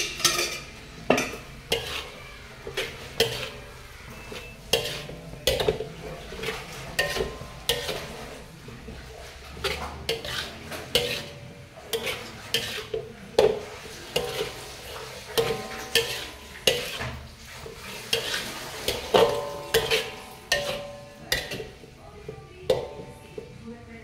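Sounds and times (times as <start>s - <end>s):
spatula scraping metal wok: 0.0s - 23.6s.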